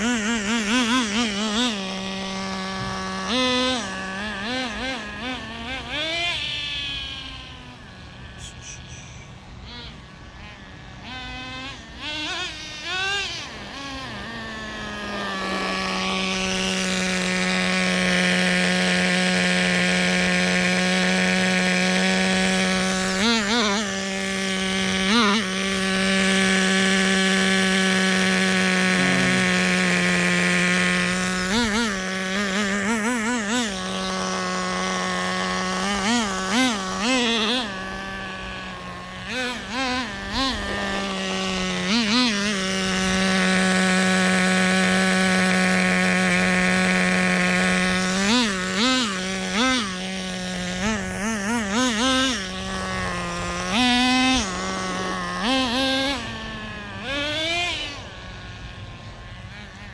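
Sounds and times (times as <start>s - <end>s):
small nitro engine revving: 0.0s - 59.9s.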